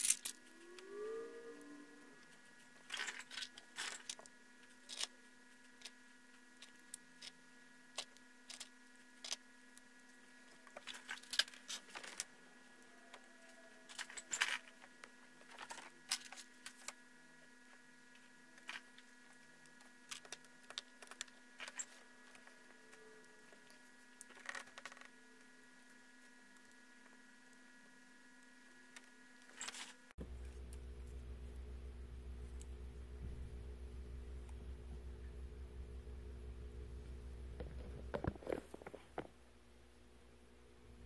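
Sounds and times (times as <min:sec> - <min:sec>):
steady electrical hum: 0:00.0 - 0:41.0.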